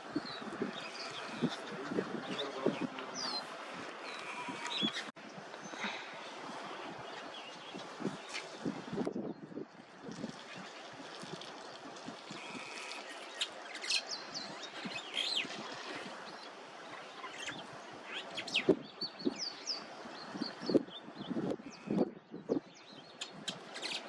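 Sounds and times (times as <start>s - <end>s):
small birds chirping: 0.0s - 24.0s
steady outdoor hiss: 0.0s - 24.0s.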